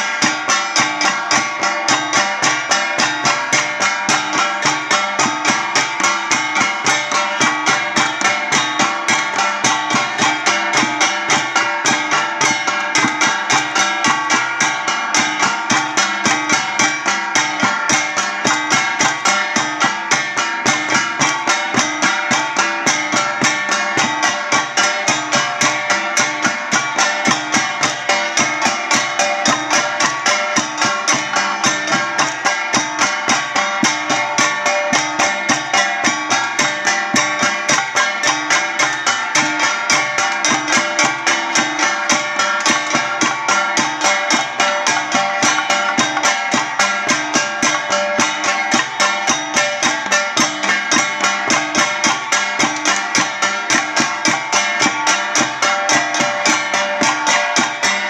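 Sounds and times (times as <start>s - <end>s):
gongs and drum percussion music: 0.0s - 58.0s.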